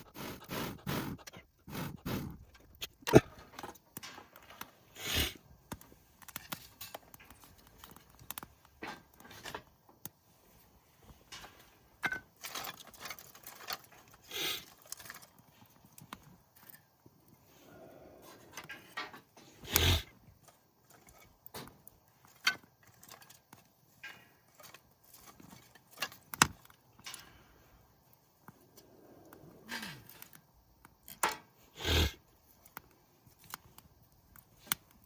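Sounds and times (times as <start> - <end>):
firewood being handled: 0.0 - 17.6, 18.2 - 28.8, 30.0 - 35.0
campfire crackling: 0.0 - 35.0.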